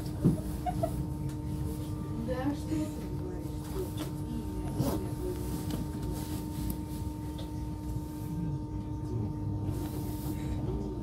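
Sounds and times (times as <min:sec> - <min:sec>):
electrical hum with low rumble: 0:00.0 - 0:11.0.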